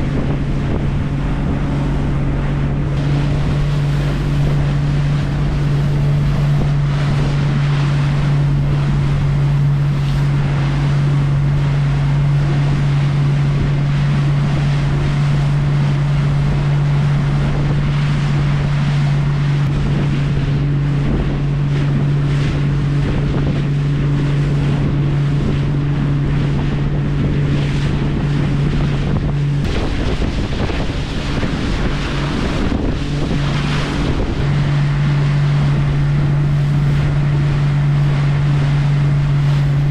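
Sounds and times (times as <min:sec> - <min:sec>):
boat engine humming: 0:00.0 - 0:39.9
water washing around hull: 0:00.0 - 0:39.9
wind buffeting microphone: 0:00.0 - 0:39.9.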